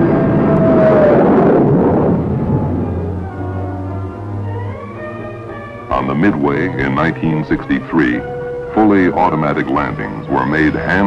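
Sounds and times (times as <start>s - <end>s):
loud roaring noise: 0.0s - 11.0s
orchestral film score: 1.2s - 11.0s.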